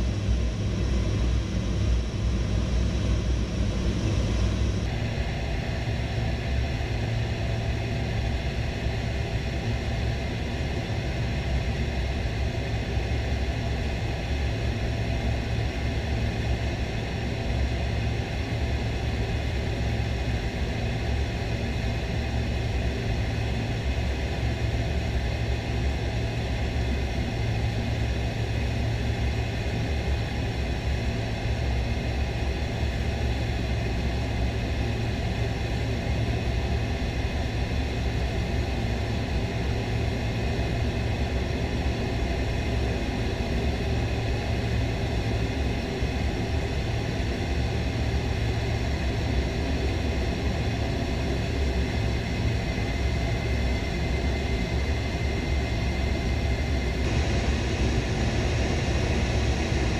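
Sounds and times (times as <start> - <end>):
airflow over canopy: 0.0 - 59.9
jet engines rumbling in cockpit: 0.0 - 59.9.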